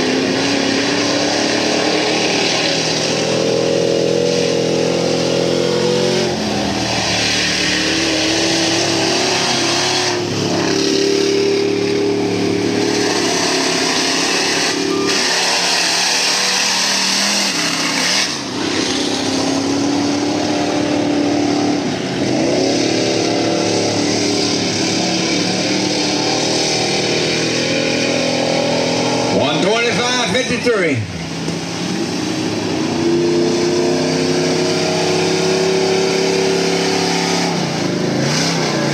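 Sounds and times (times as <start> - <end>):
truck engine revving high: 0.0 - 38.9.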